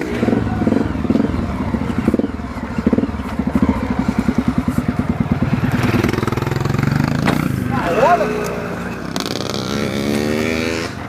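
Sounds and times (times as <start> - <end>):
motorcycle engine chugging: 0.0 - 11.0.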